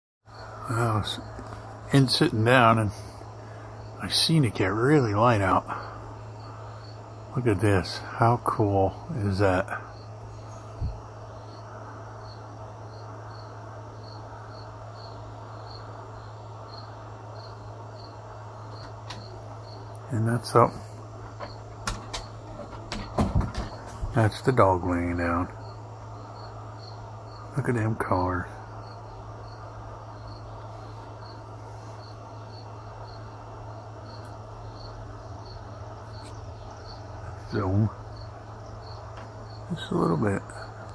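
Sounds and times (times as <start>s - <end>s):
cricket chirping: 0.3s - 40.9s.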